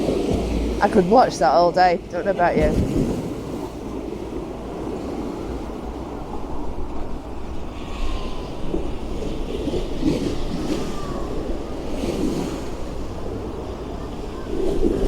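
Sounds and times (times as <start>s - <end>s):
sea waves washing against stone steps: 0.0s - 15.0s.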